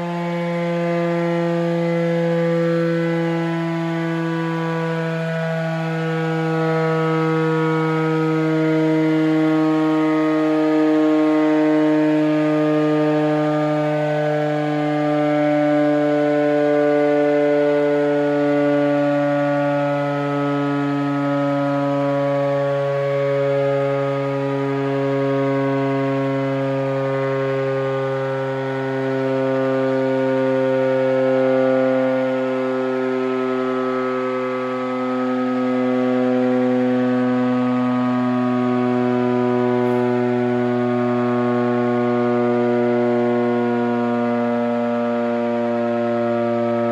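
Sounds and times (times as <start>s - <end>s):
air raid siren wailing: 0.0s - 46.9s.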